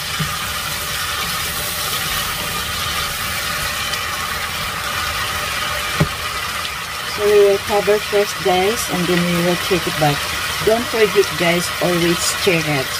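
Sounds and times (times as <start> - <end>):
food sizzling in a pan: 0.0 - 12.9.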